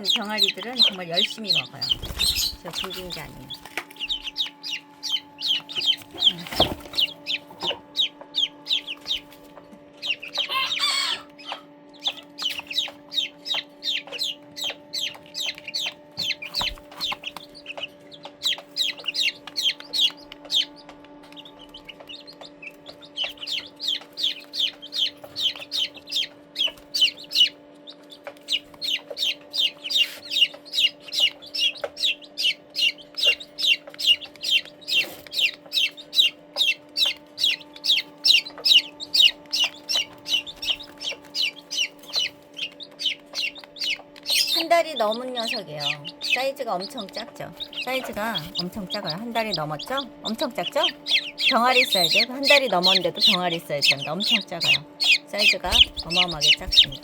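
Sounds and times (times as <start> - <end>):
chicks peeping: 0.0 - 57.0
steady low hum: 0.0 - 57.0.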